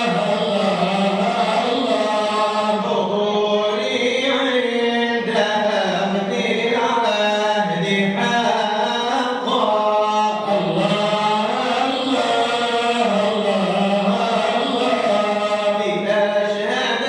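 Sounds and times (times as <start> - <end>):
devotional chanting: 0.0 - 17.0.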